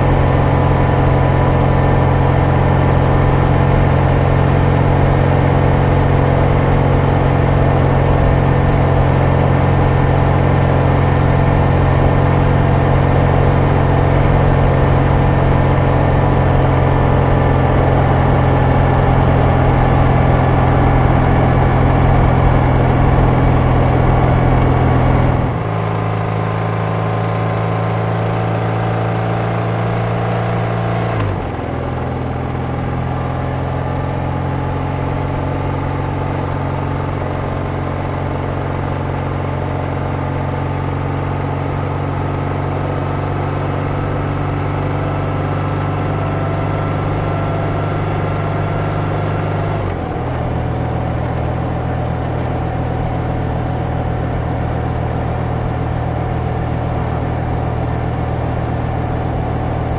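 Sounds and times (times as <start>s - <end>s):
motorcycle exhaust drone: 0.0s - 59.9s.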